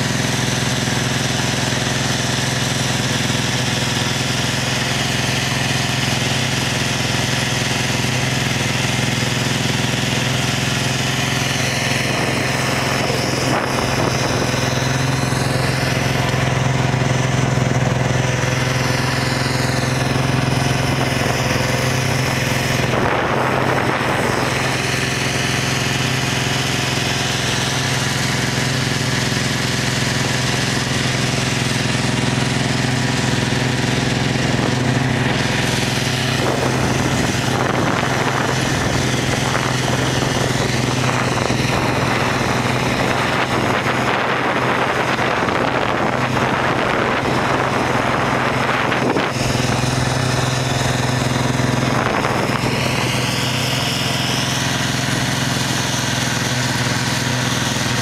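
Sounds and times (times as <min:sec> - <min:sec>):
rushes of rough noise: 0:00.0 - 0:58.0
snowmobile engine droning: 0:00.0 - 0:58.0.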